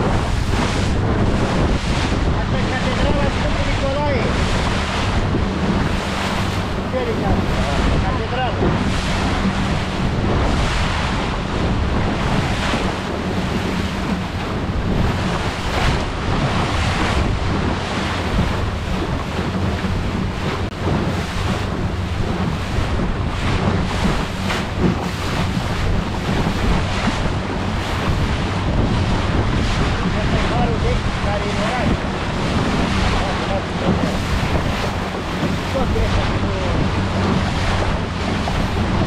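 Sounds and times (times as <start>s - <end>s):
motorboat engine hum: 0.0s - 39.0s
water rushing: 0.0s - 39.0s
wind buffeting the microphone: 0.0s - 39.0s.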